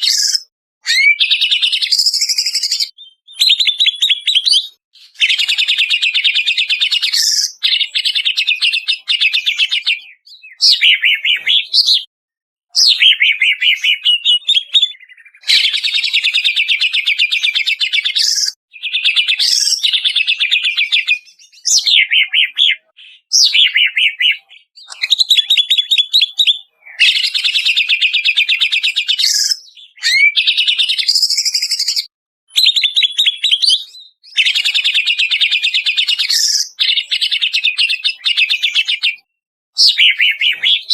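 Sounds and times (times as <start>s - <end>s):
bird singing chattering whistles: 0.0s - 12.1s, 12.8s - 39.1s, 39.8s - 40.9s.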